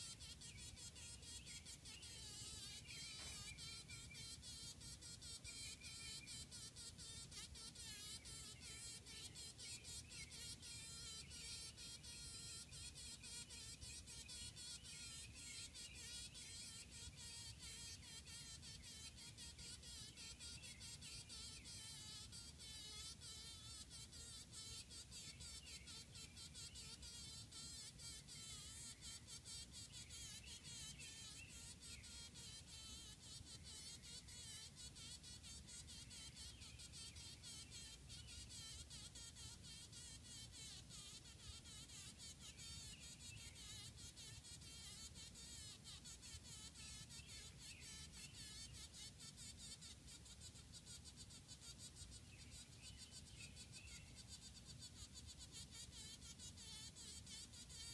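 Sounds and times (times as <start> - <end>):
bee buzzing in bursts: 0.0 - 57.9.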